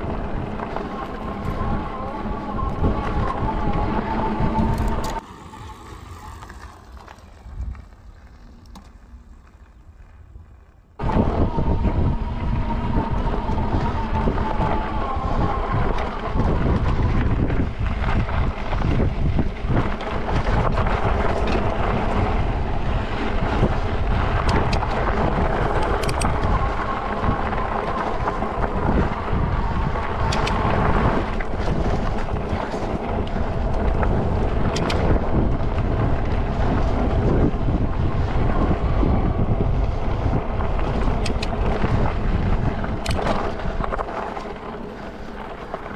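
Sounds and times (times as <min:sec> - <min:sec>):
electric motor whine: 0:00.0 - 0:09.4, 0:11.0 - 0:45.9
wind buffeting microphone: 0:00.0 - 0:45.9.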